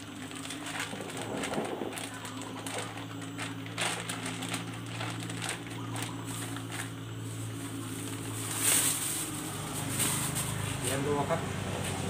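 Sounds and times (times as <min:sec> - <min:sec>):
plastic bag rustling: 0:00.0 - 0:11.2
steady low hum: 0:00.0 - 0:12.0.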